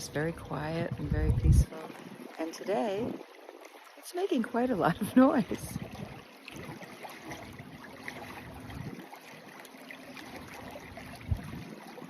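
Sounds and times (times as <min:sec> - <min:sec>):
stream rushing and babbling: 0:00.0 - 0:12.0.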